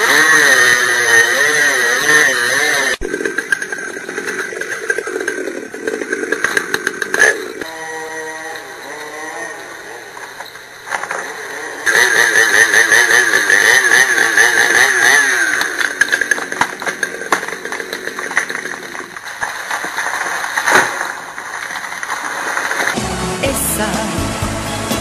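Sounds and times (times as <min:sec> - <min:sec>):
wood cracking: 0:00.0 - 0:23.0
chainsaw cutting wood: 0:00.0 - 0:25.0.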